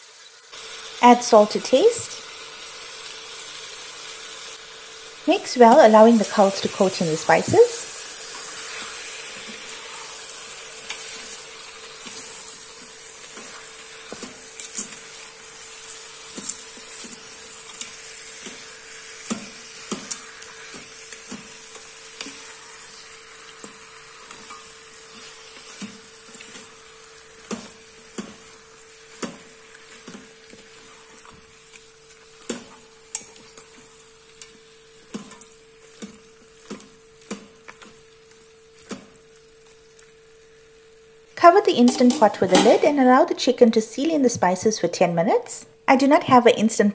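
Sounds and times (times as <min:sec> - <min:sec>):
chicken sizzling in hot oil: 0:00.0 - 0:43.6.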